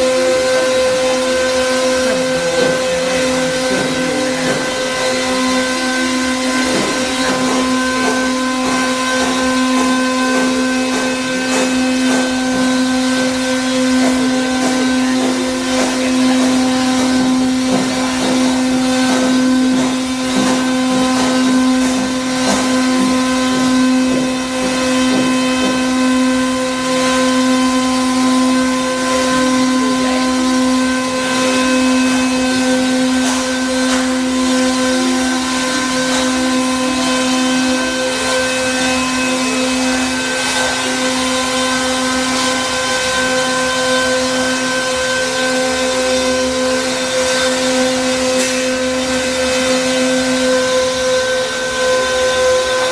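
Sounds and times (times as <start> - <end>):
spindle motor whining: 0.0 - 52.9.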